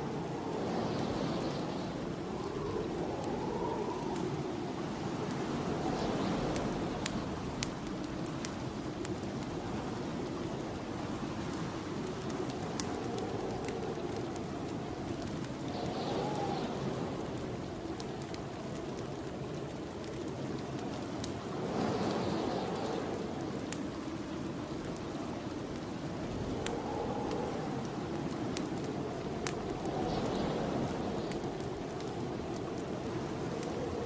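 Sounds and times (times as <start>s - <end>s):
howling wind: 0.0s - 34.0s
wood fire crackling: 0.0s - 34.0s.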